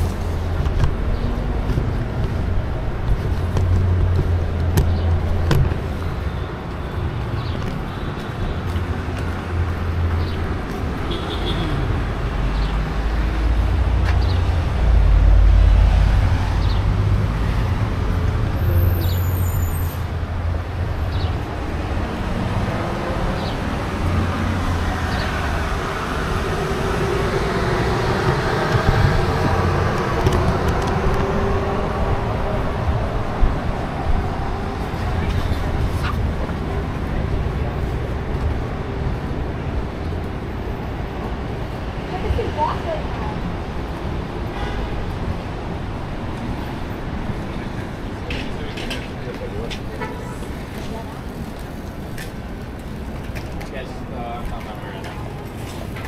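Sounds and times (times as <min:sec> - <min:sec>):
street traffic rumbling: 0:00.0 - 0:56.0.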